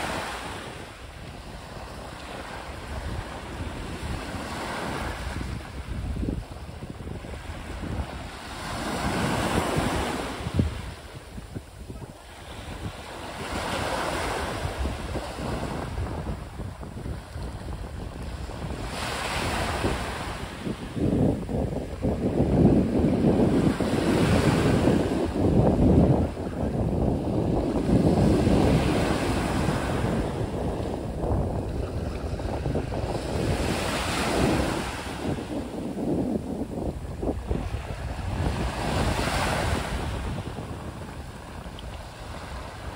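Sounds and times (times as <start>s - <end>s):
small waves washing on shore: 0.0s - 42.9s
wind buffeting microphone: 0.0s - 42.9s.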